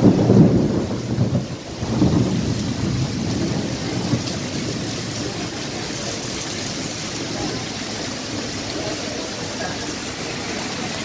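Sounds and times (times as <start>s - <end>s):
low thunder rumble: 0.0s - 8.8s
heavy rain on a street: 0.0s - 11.0s.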